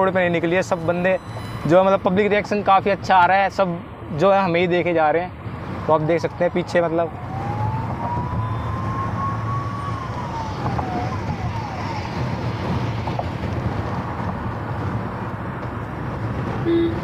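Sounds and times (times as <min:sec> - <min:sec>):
car road and wind rumble: 0:00.0 - 0:17.0.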